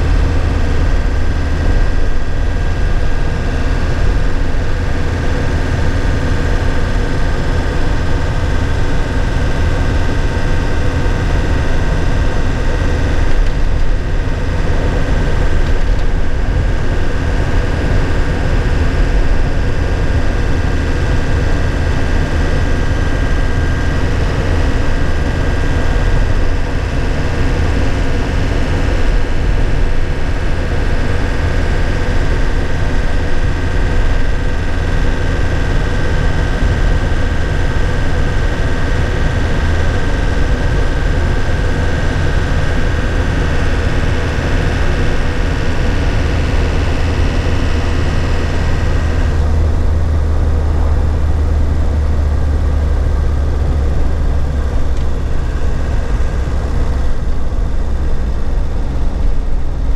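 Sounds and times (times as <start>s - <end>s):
diesel engine rumble: 0.0s - 59.9s
high whine: 0.0s - 59.9s.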